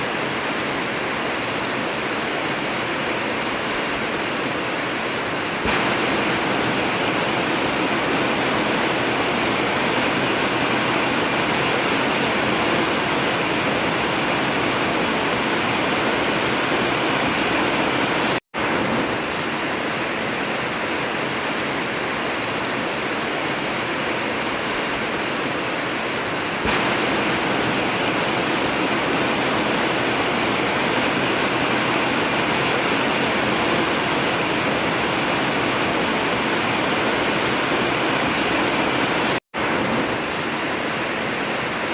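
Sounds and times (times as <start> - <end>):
heavy rain on a metal roof: 0.0 - 41.9.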